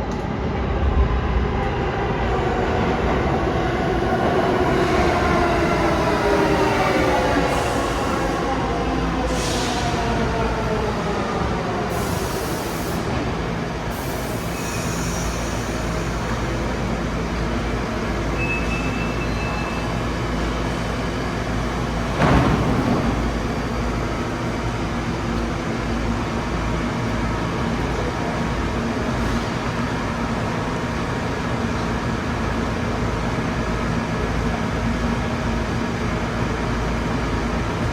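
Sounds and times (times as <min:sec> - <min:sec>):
subway motors whining down: 0:00.0 - 0:37.9
train rumble: 0:00.0 - 0:37.9.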